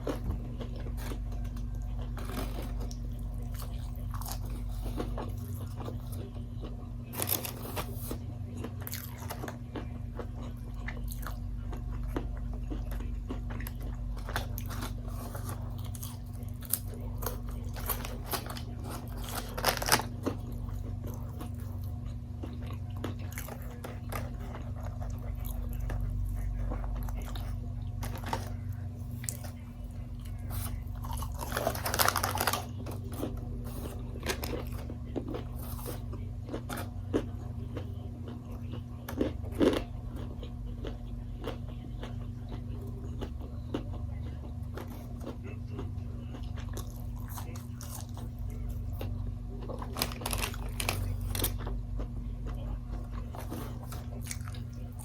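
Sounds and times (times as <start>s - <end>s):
chewing with crisp crunches: 0.0s - 55.0s
low steady hum: 0.0s - 55.0s.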